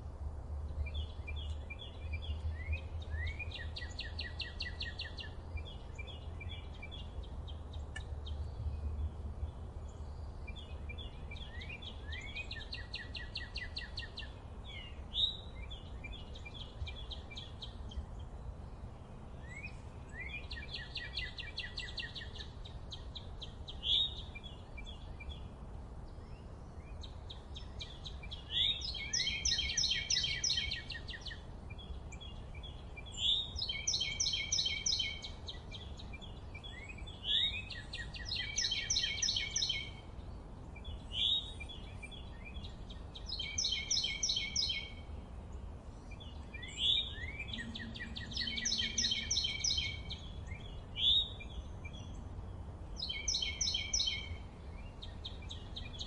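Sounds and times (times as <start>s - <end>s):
songbird singing trills: 0.0s - 56.0s.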